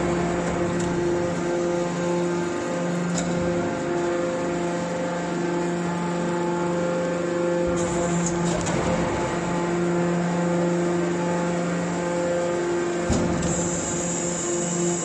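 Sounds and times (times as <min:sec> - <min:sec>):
hydraulic pump humming: 0:00.0 - 0:15.0.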